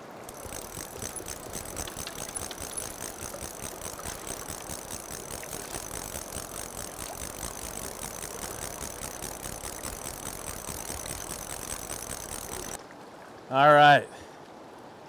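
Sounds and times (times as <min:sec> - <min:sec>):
fishing reel clicking rapidly: 0:00.3 - 0:12.8.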